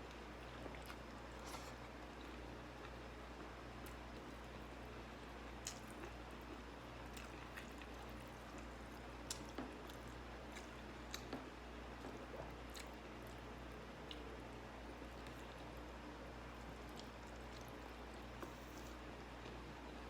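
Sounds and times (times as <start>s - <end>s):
person chewing food: 0.0s - 14.4s, 15.0s - 19.7s
low steady hum: 0.0s - 20.0s.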